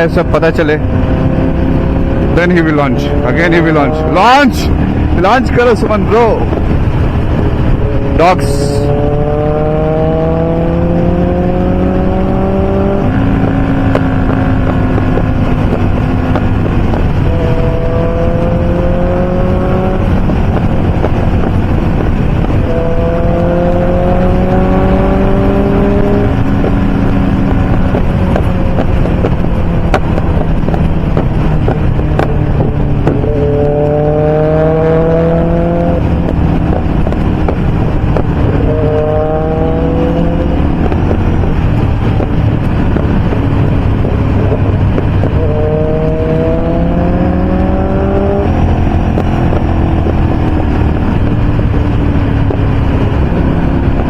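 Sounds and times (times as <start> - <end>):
motorcycle engine accelerating: 0.0 - 54.0
wind rushing: 0.0 - 54.0.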